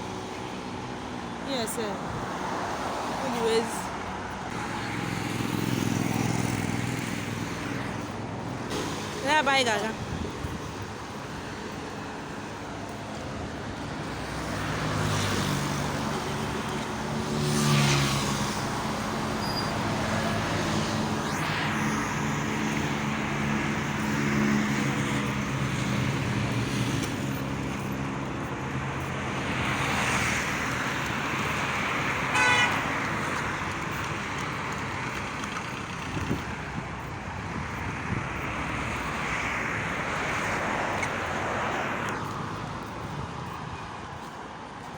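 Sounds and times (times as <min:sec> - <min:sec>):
cars passing: 0:00.0 - 0:44.9.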